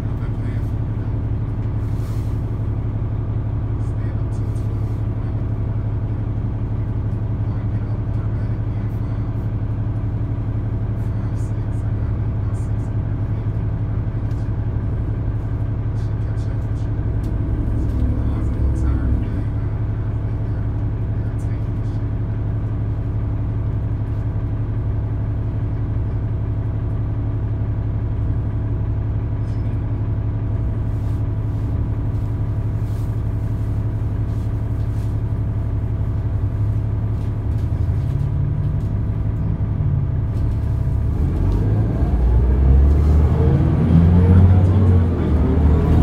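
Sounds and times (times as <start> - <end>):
bus diesel engine idling: 0.0 - 46.0.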